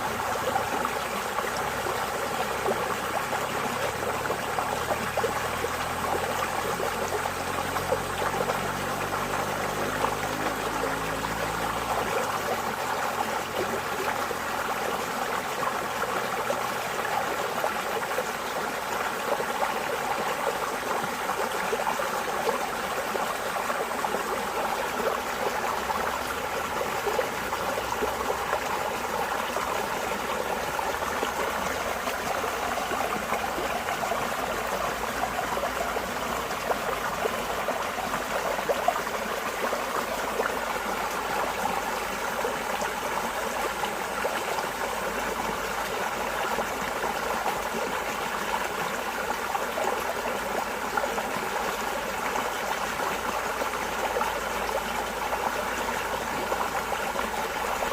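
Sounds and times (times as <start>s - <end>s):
running water flowing: 0.0s - 57.9s.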